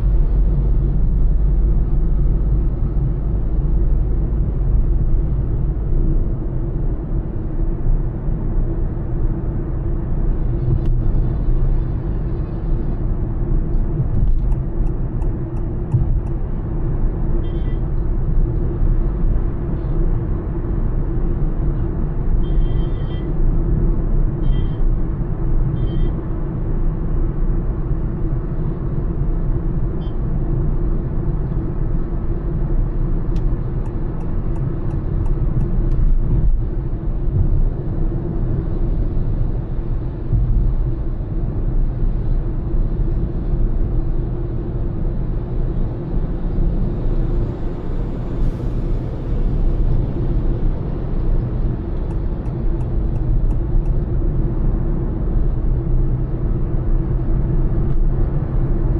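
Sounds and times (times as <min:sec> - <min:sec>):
engine hum: 0:00.0 - 0:58.9
tyre and road noise: 0:00.0 - 0:58.9.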